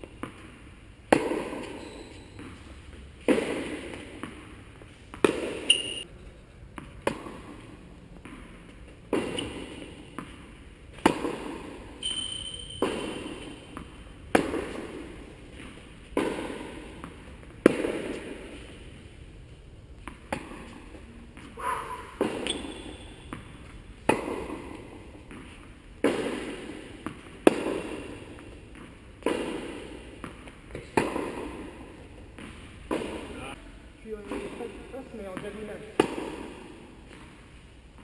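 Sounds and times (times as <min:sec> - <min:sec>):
tennis ball bouncing on court: 0:00.0 - 0:06.1, 0:06.7 - 0:19.1, 0:20.0 - 0:33.4, 0:34.1 - 0:38.0
tennis ball hit by rackets: 0:00.0 - 0:06.1, 0:06.7 - 0:19.0, 0:20.0 - 0:33.4, 0:34.2 - 0:38.0.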